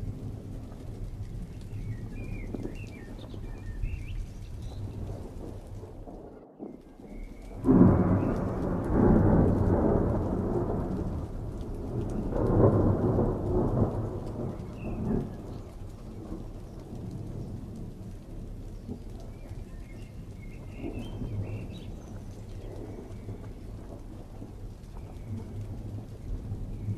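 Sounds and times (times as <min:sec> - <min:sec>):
thunder rumbling: 0:00.0 - 0:26.9.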